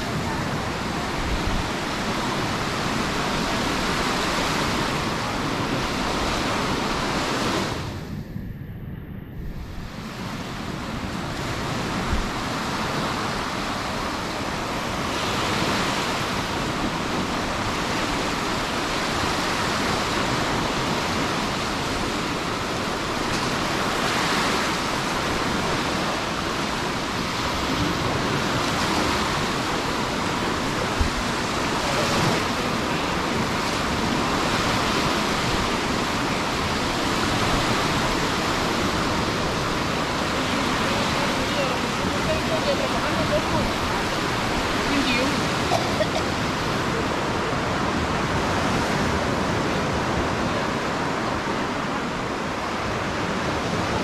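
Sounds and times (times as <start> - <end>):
sea waves breaking on beach: 0.0 - 8.4, 9.3 - 54.0.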